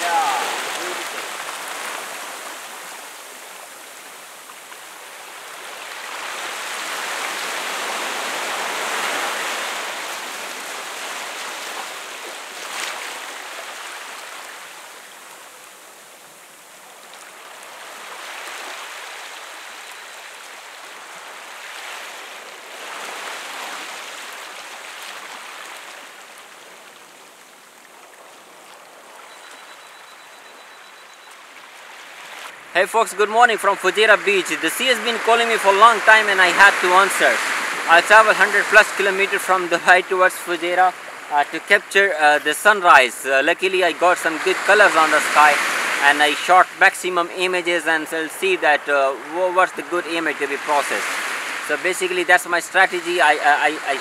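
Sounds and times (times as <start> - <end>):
waves washing over rocks and sand: 0.0 - 54.0.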